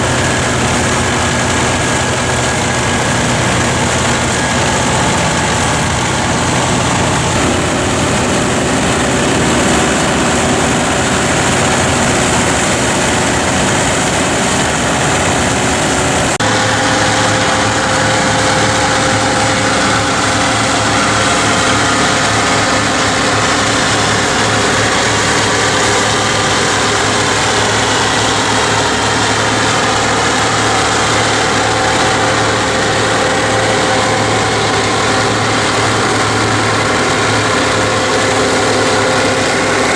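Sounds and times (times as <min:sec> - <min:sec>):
forage harvester cutting: 0:00.0 - 0:39.9
tractor engine running under load: 0:00.0 - 0:39.9.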